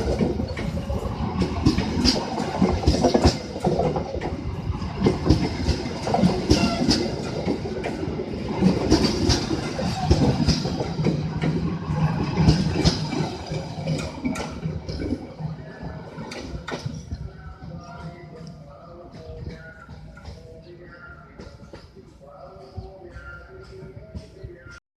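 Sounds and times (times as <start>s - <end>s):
train cars rumbling: 0.0s - 24.8s
train wheels clacking on rail joints: 0.0s - 24.8s.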